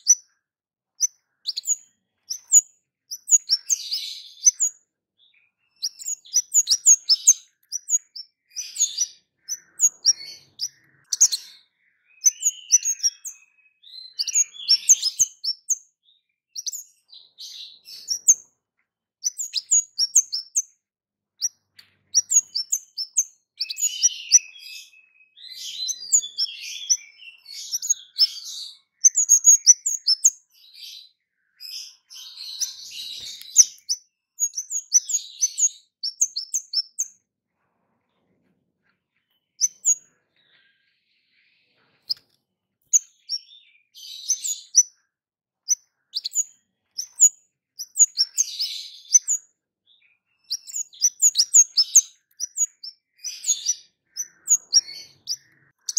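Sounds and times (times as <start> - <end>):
songbird chirping: 0.0 - 55.9.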